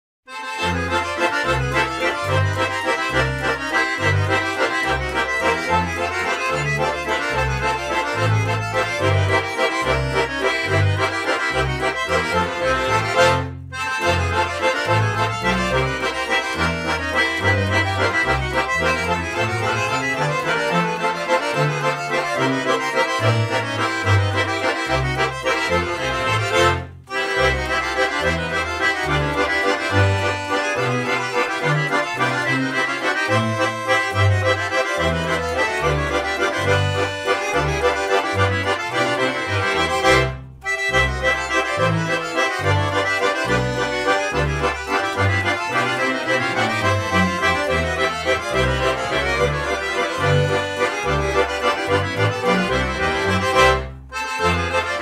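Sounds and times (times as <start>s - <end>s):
accordion music: 0.3s - 55.0s.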